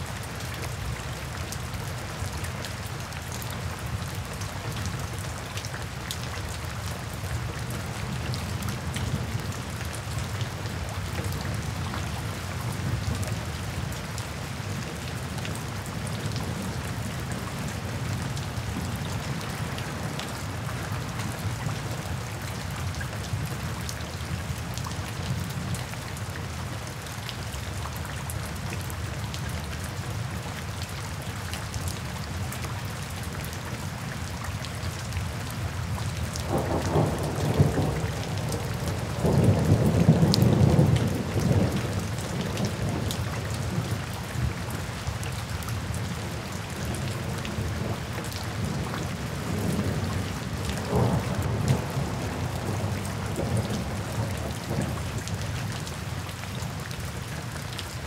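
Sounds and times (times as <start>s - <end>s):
raindrops ticking and splashing: 0.0s - 58.0s
steady rain hiss: 0.0s - 58.0s.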